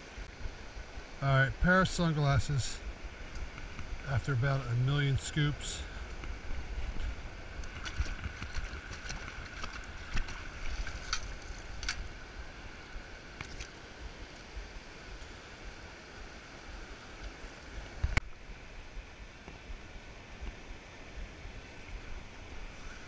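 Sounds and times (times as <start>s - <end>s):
wind and surf rumble: 0.0s - 23.0s.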